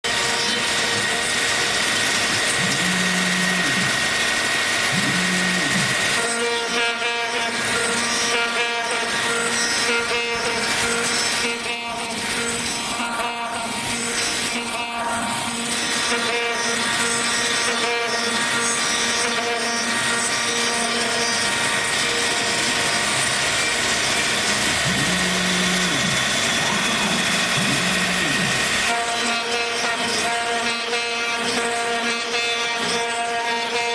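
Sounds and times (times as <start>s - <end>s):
milling machine cutting metal: 0.0s - 33.9s
low motor whine: 0.1s - 33.9s.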